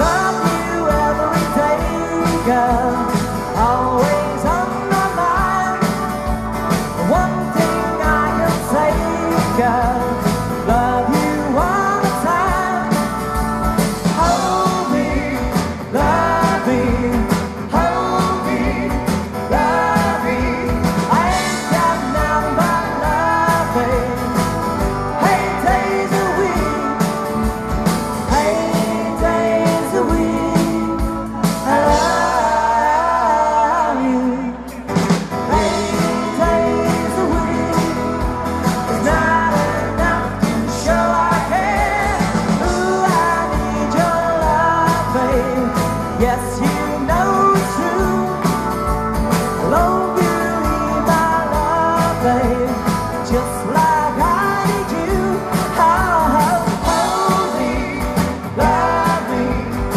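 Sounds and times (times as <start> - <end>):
live band playing: 0.0 - 59.9
man singing: 0.0 - 59.9.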